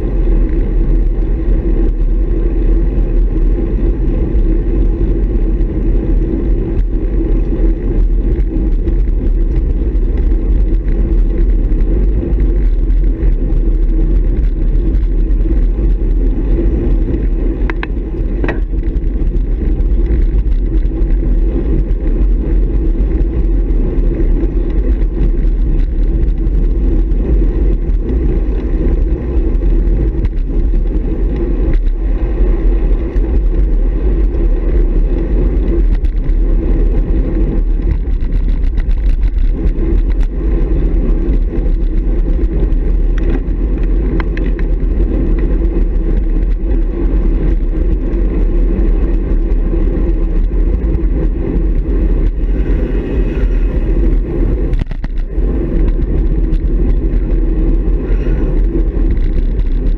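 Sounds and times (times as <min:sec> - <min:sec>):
wind buffeting and road rumble: 0:00.0 - 0:59.9.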